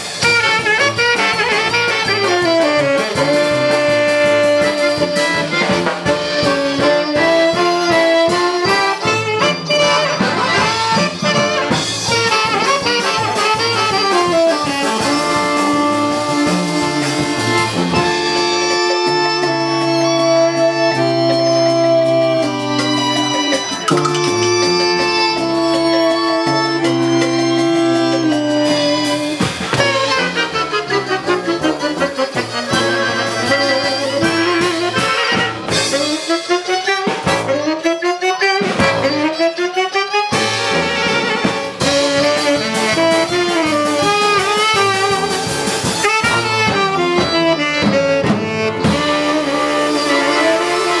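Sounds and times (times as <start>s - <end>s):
circus band playing: 0.0s - 51.0s.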